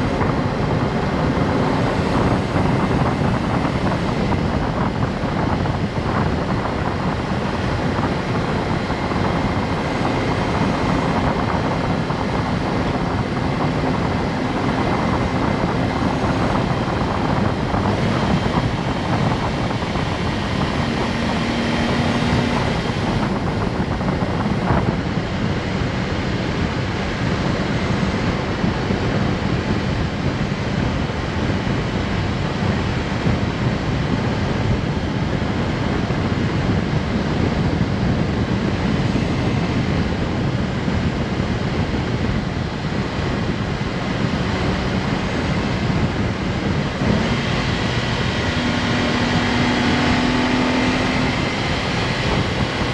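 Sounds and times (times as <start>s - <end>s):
road and wind noise: 0.0s - 52.9s
small car engine running: 0.0s - 52.9s.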